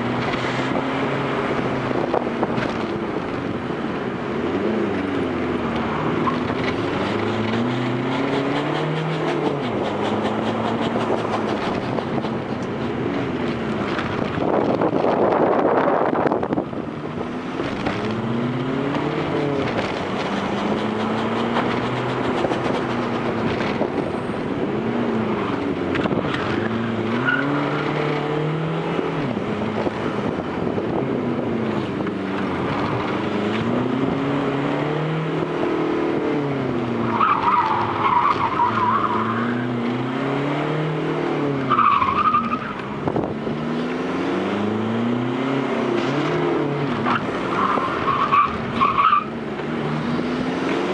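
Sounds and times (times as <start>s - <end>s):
diesel car engine revving: 0.0s - 50.9s.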